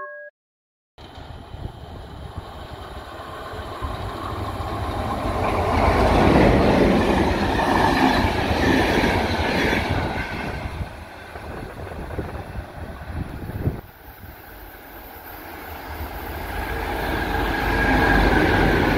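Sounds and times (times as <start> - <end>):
train wheels rumbling and clattering: 1.0 - 18.9.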